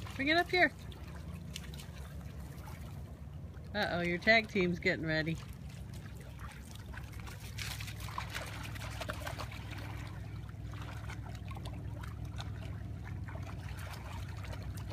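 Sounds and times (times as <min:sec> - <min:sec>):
dogs splashing in water: 0:00.0 - 0:14.9
steady low rumble: 0:00.0 - 0:14.9
water trickling: 0:00.0 - 0:14.9.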